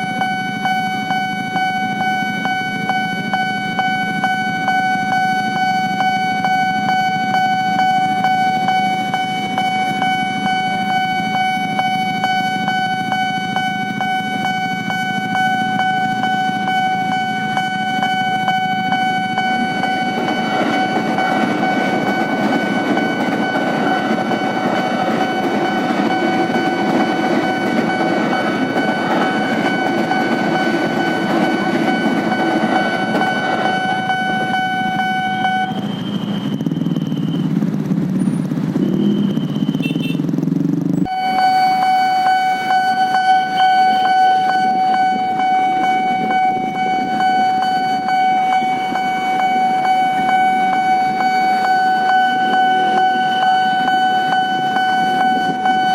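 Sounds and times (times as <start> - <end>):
level crossing bell ringing: 0.0 - 35.8, 41.1 - 55.9
train rumbling past: 0.0 - 55.9.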